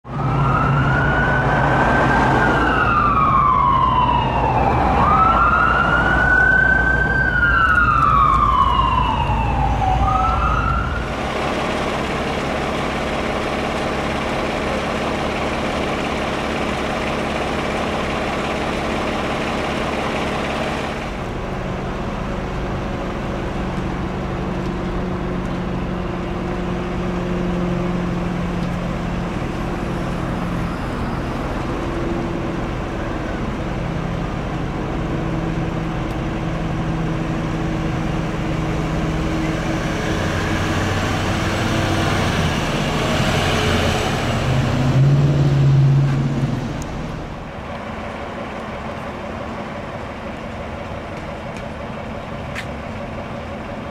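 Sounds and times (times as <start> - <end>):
fire engine siren wailing: 0.0 - 53.9
heavy truck engine rumble: 0.0 - 53.9.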